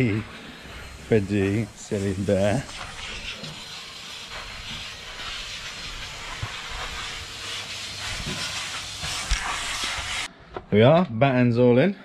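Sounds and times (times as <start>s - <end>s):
vacuum cleaner on metal floor: 0.0s - 10.3s.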